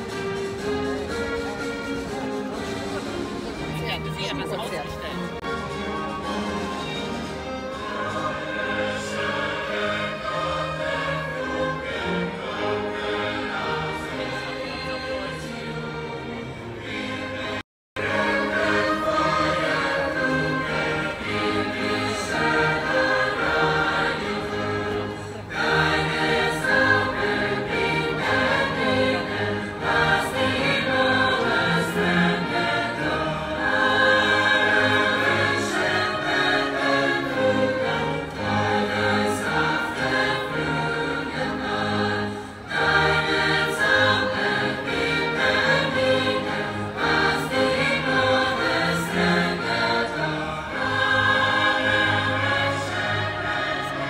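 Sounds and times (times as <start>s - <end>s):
choir singing: 0.0s - 54.0s
orchestra with strings: 0.0s - 54.0s.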